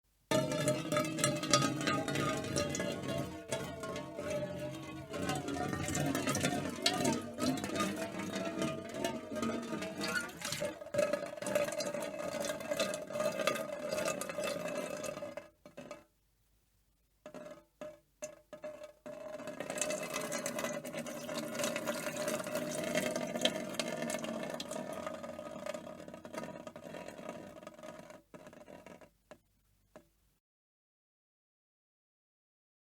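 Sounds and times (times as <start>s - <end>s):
water pouring into metal can: 0.3s - 16.1s, 18.3s - 29.1s.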